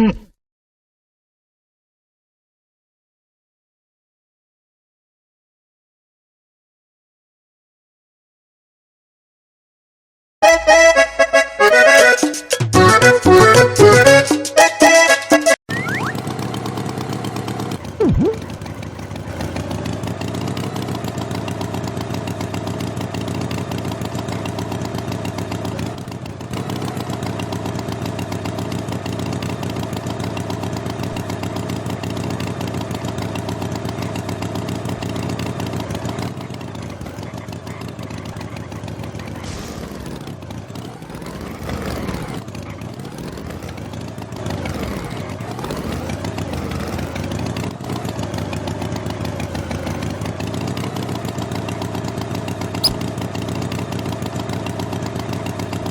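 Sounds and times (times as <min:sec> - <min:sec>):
engine running and revving: 0:10.4 - 0:55.9.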